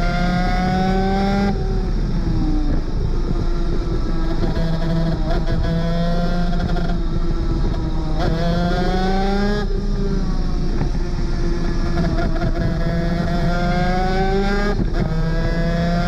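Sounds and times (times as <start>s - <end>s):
kart engine running hard: 0.0s - 16.0s.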